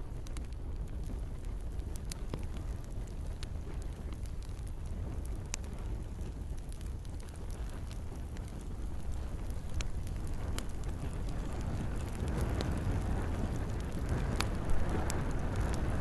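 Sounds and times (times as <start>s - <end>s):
campfire crackling: 0.0s - 16.0s
rain: 0.0s - 16.0s.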